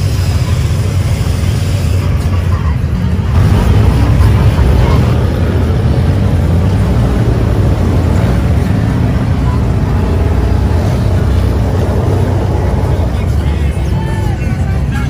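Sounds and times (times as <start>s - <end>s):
off-road vehicle engines rumbling: 0.0s - 15.0s.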